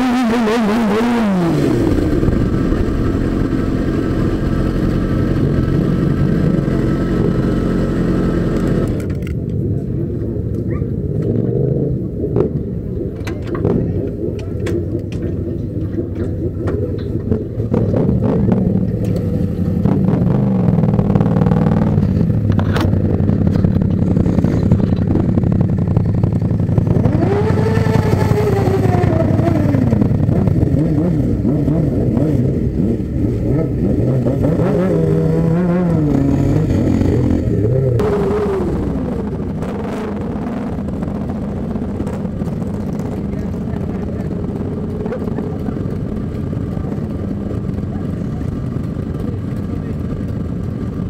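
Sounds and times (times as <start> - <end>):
motorcycle throttle revving: 0.0 - 9.3, 11.1 - 51.0
motorcycle engines rumbling: 0.0 - 51.0.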